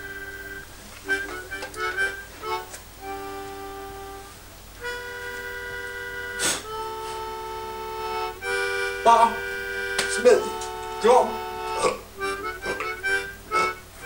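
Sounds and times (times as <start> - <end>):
free-reed instrument music: 0.0 - 14.0.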